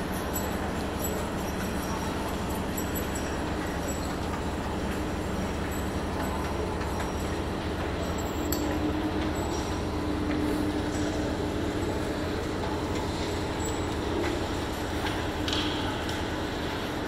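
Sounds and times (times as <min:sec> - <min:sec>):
machinery rumble and hum: 0:00.0 - 0:17.0.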